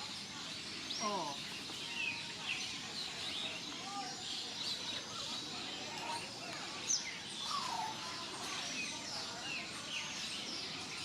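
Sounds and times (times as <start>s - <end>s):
birds chirping and calling: 0.0s - 11.0s.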